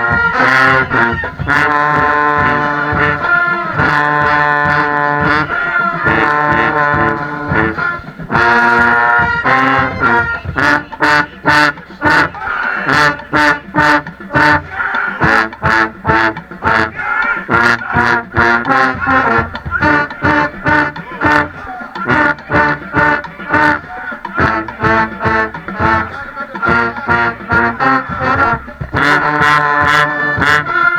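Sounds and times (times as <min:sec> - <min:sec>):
brass band playing: 0:00.0 - 0:30.9
drum and cymbal strikes: 0:00.0 - 0:30.9.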